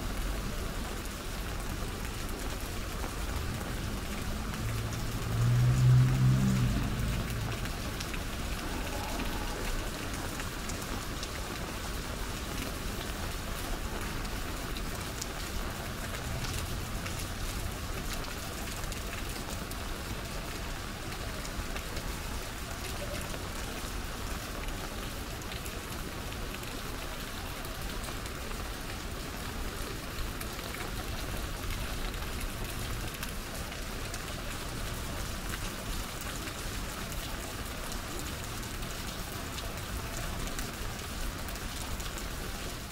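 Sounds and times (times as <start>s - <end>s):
rain on an umbrella: 0.0s - 42.9s.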